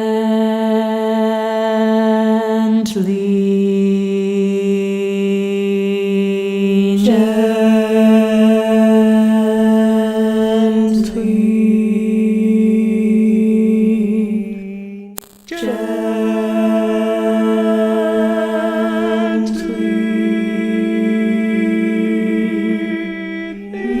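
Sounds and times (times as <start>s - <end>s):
voices singing held notes: 0.0s - 24.0s.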